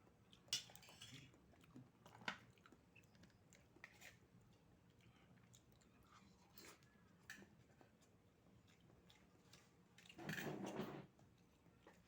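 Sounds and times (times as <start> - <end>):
quiet chewing: 0.3 - 10.2.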